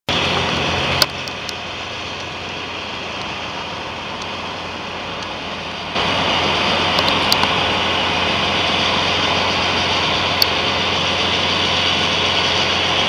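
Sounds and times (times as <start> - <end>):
wood chipper engine running: 0.1 - 13.0.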